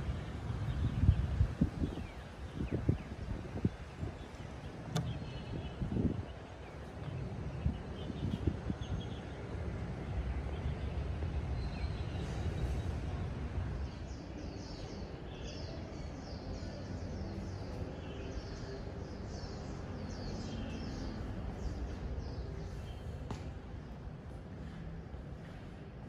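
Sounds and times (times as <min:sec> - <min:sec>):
low outdoor rumble: 0:00.0 - 0:26.0
small birds chirping: 0:00.1 - 0:24.0.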